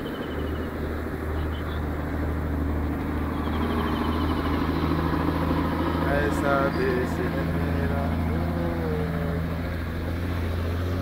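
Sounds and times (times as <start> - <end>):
motor vehicle running: 0.0 - 11.0.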